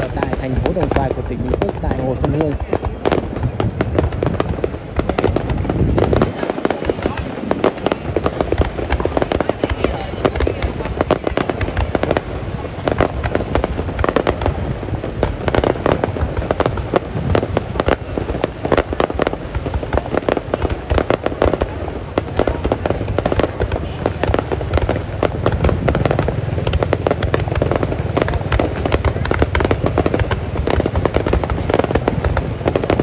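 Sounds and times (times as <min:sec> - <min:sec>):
fireworks bangs and crackles: 0:00.0 - 0:33.0
low rumble: 0:00.0 - 0:33.0.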